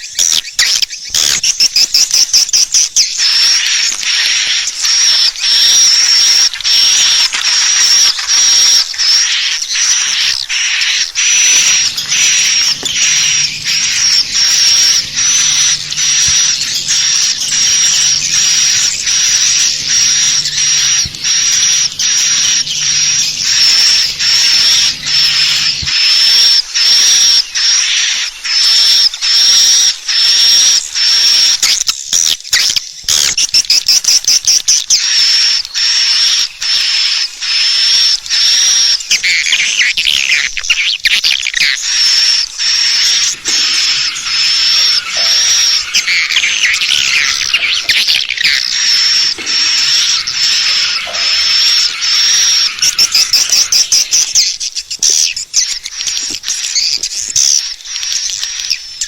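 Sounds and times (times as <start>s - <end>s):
shrill chirping bird calls: 0.0s - 59.0s.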